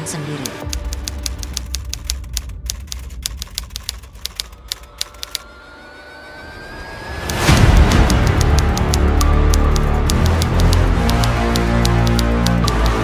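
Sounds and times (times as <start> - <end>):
typewriter key clicks: 0.4 - 5.4, 7.3 - 13.0.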